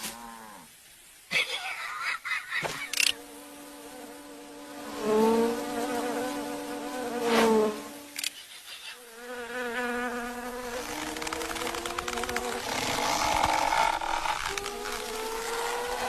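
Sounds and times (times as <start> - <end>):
insect buzzing: 2.6 - 16.0.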